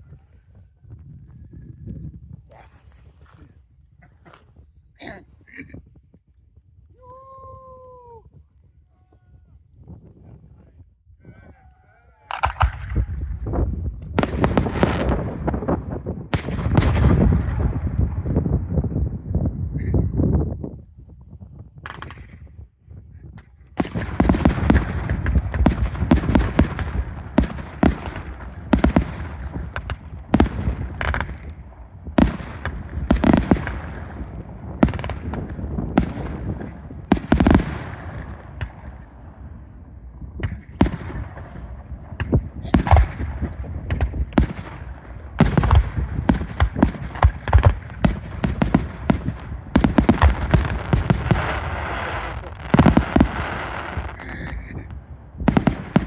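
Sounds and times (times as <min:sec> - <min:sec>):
fireworks rumble and crackle: 0:00.0 - 0:56.0.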